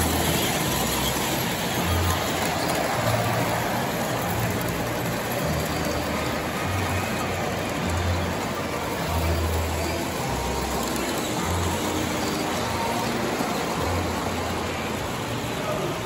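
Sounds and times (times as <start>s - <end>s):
toy trains rumbling on track: 0.0s - 16.0s.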